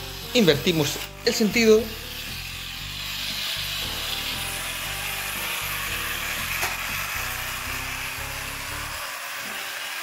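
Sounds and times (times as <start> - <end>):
background music with bass line: 0.0 - 9.0
toy train motor whirring: 0.0 - 10.0.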